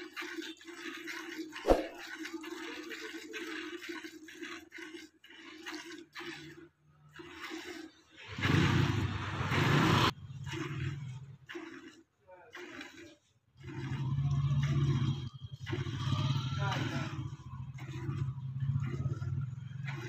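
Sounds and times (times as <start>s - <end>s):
milk squirting into steel pot: 0.0s - 8.9s, 10.4s - 20.0s.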